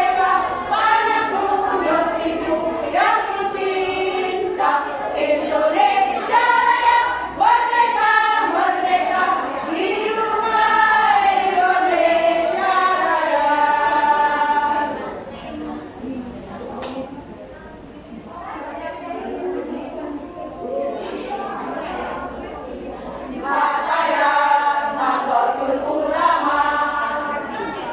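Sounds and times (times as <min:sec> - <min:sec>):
women's choir singing: 0:00.0 - 0:16.0, 0:19.7 - 0:27.9.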